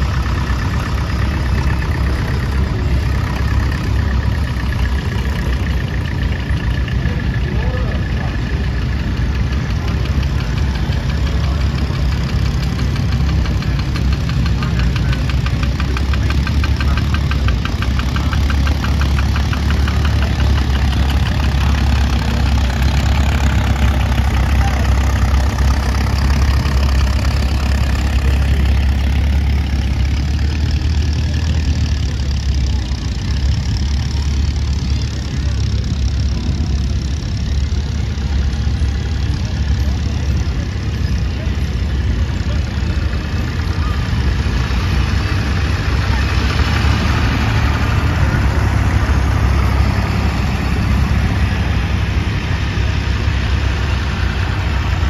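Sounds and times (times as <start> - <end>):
tractor engines driving past: 0.0 - 55.0.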